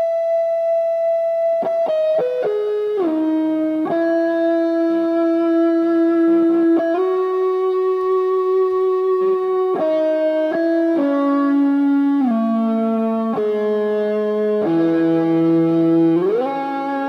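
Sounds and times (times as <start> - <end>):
electric guitar playing ringing notes: 0.0 - 17.0.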